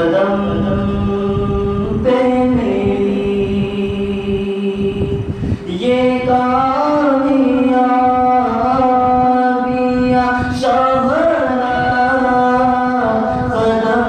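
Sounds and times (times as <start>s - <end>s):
person singing long notes: 0.0s - 14.0s.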